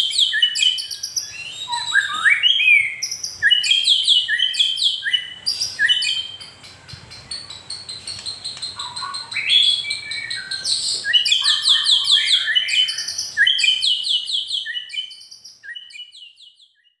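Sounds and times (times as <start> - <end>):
bird singing high slurred notes: 0.0 - 17.0.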